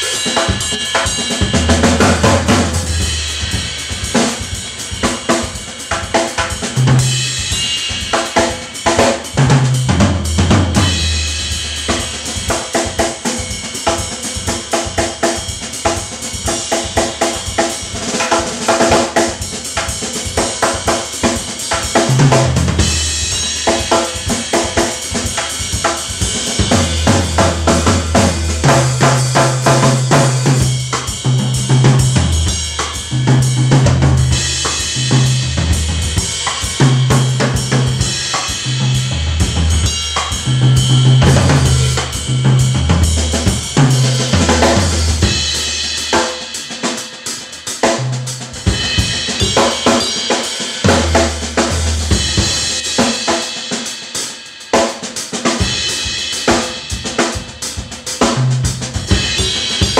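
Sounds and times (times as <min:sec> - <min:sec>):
drum kit groove: 0:00.0 - 0:59.9.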